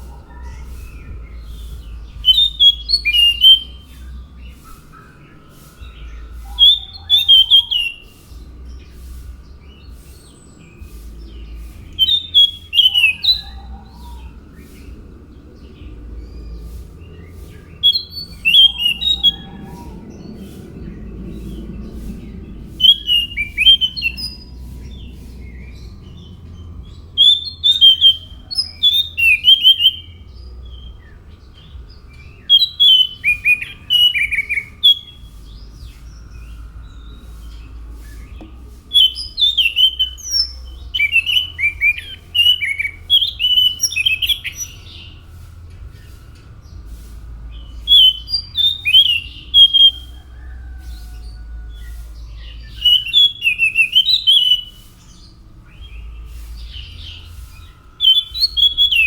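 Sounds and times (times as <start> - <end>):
thrush chirping: 0.0 - 51.2
low steady hum: 0.0 - 59.0.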